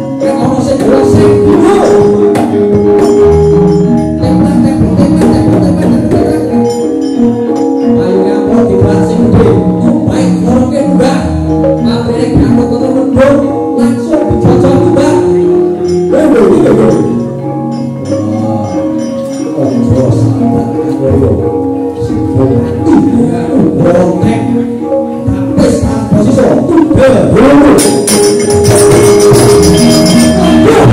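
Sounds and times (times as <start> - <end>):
gamelan playing: 0.0 - 30.9
ringing metallophone notes: 0.0 - 30.9.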